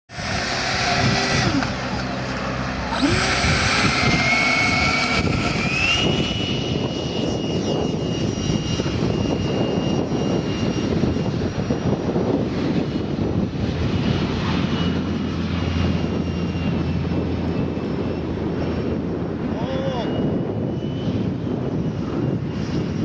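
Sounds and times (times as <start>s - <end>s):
model aircraft motor whining: 0.1s - 23.0s
wind rumbling on microphone: 0.1s - 23.0s.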